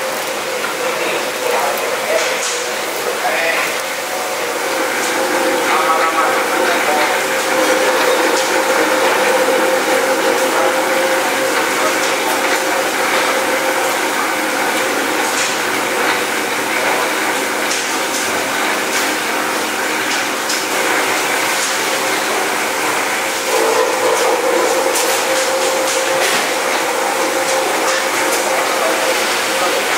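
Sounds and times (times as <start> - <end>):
machinery hum: 0.0 - 29.9
running water: 0.0 - 29.9.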